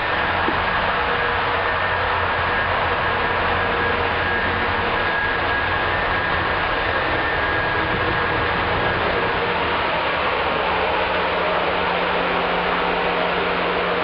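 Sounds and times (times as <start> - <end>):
engine room machinery running: 0.0 - 14.0.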